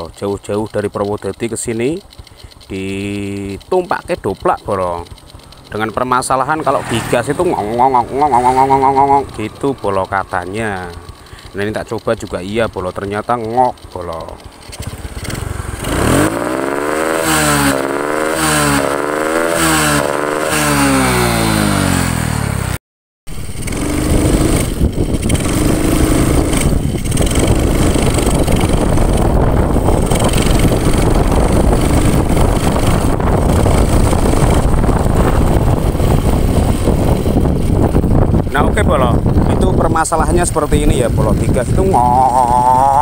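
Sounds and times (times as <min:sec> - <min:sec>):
motorcycle engine throttle blips: 0:00.0 - 0:43.0
steady engine noise: 0:00.0 - 0:43.0.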